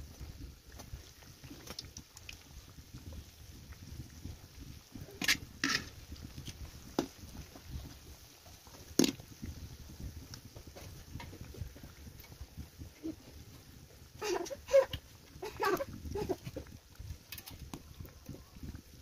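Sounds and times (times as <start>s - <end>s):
dough frying in hot oil: 0.0s - 19.0s.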